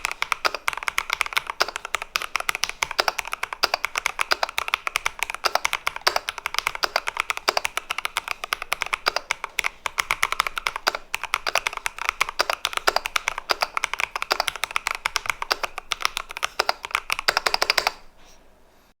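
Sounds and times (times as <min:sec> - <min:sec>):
mechanical keyboard typing: 0:00.0 - 0:18.1.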